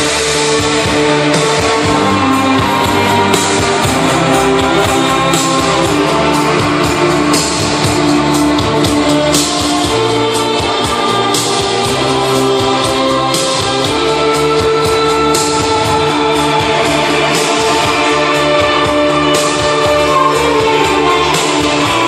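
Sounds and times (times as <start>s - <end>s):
loud guitar music: 0.0s - 22.0s.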